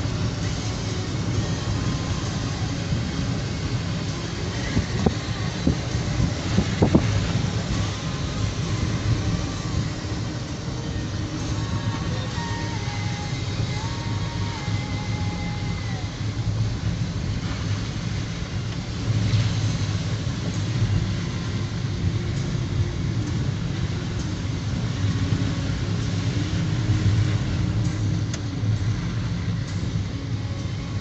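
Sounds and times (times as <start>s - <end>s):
vehicle engine and road rumble: 0.0s - 31.0s.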